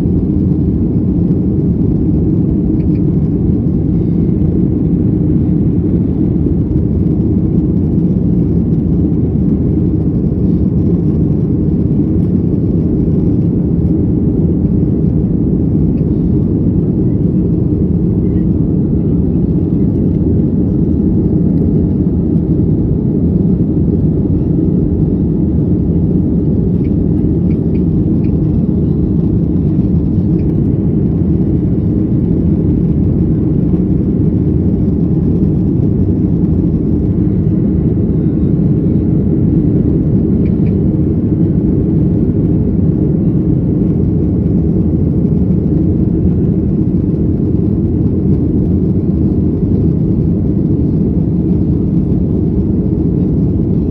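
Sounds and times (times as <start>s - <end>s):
jet engine rumble: 0.0s - 53.9s.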